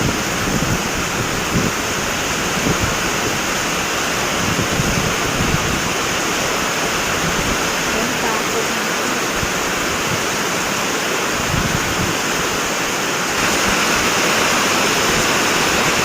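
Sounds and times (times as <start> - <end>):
heavy rain: 0.0 - 16.0
strong wind: 0.0 - 16.0.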